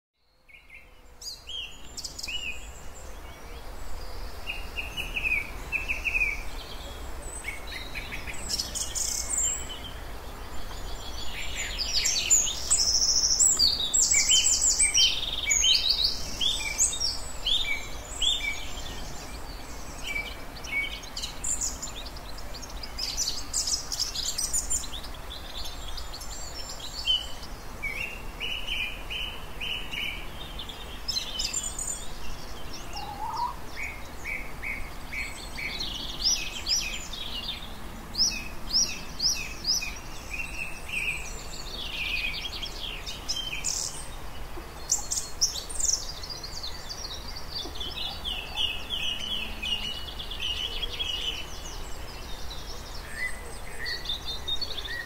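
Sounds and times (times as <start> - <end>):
birds chirping and trilling: 0.3 - 55.0.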